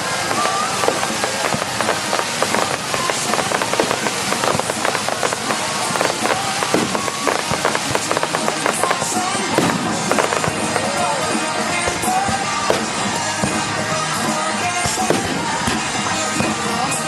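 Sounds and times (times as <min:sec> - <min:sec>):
music playing: 0:00.0 - 0:14.3
fireworks crackling and popping: 0:00.0 - 0:17.0.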